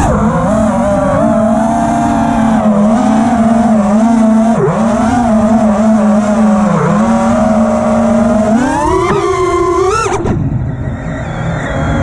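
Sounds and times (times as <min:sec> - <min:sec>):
drone motors buzzing whine: 0:00.0 - 0:12.0.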